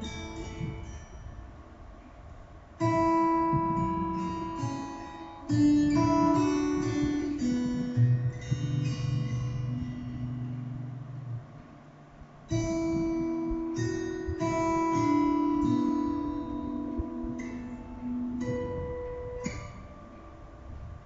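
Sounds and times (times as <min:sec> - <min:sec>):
acoustic guitar chords: 0:00.0 - 0:21.0.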